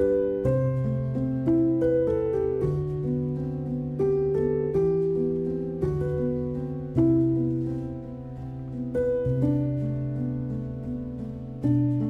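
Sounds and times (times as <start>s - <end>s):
gentle piano melody: 0.0s - 12.0s.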